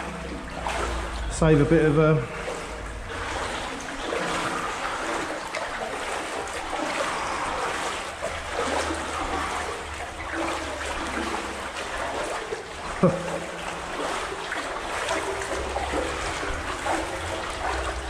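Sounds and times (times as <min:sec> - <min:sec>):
wading through water: 0:00.0 - 0:18.0.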